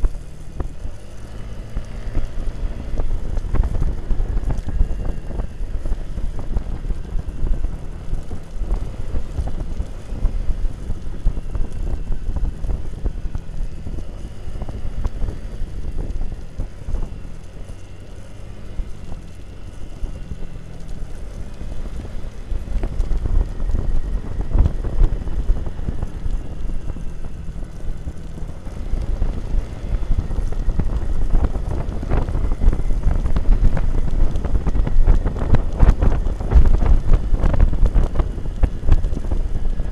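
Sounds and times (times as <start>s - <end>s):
motorcycle engine hum: 0.0s - 39.9s
wind buffeting microphone: 0.0s - 39.9s.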